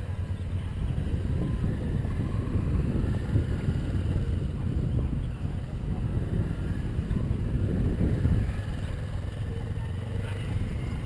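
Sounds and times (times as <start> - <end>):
distant motorcycle engines: 0.0 - 11.0
wind buffeting microphone: 0.0 - 11.0.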